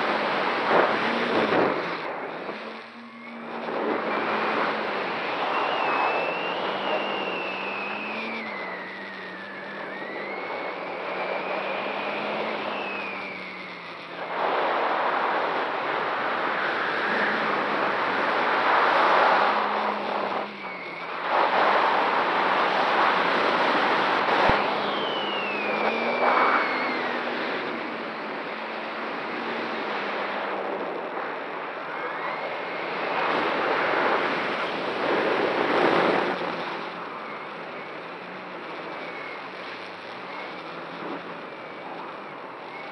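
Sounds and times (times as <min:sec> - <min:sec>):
quadcopter motors droning: 0:00.0 - 0:42.9
wind rushing over microphone: 0:00.0 - 0:42.9
high gliding whistle: 0:00.7 - 0:29.2, 0:31.8 - 0:42.9.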